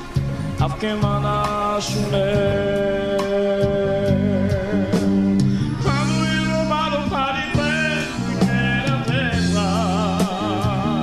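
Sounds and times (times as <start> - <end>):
regular drum beat: 0.0 - 11.0
steady bass: 0.0 - 11.0.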